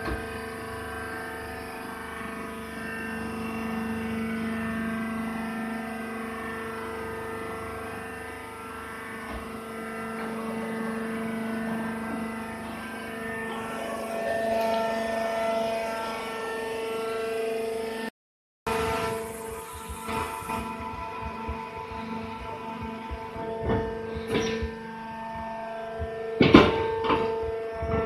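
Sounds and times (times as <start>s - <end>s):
baler press machine hum: 0.0s - 18.1s, 18.7s - 28.0s.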